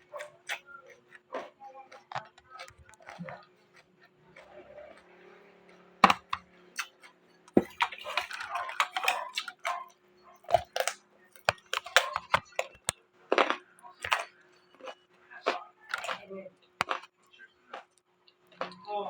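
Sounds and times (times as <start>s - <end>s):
chewing crunchy raw vegetables: 0.0s - 18.9s.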